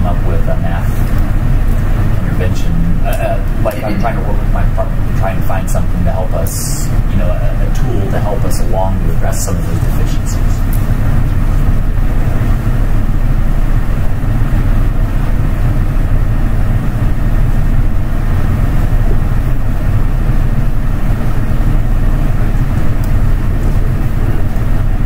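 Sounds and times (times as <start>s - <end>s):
loud low rumble: 0.0s - 25.0s.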